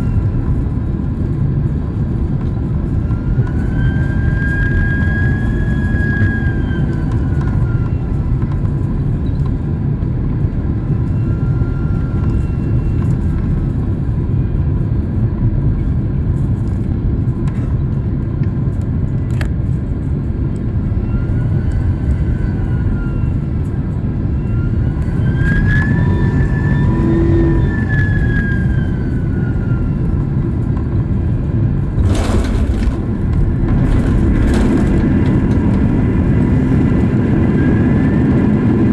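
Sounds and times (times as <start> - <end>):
jet engine and airflow rumble: 0.0 - 38.9
jet engine whine: 0.0 - 38.9.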